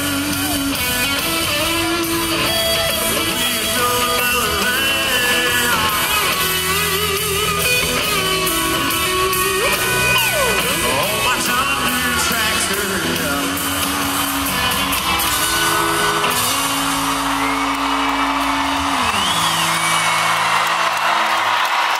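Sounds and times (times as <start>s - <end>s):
crowd cheering: 0.0s - 21.9s
live country band with singing: 0.0s - 21.9s.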